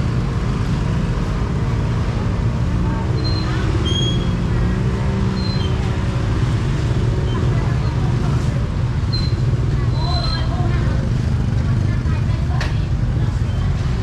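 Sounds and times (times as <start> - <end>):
low street rumble: 0.0 - 14.0
murmur of voices: 2.1 - 14.0.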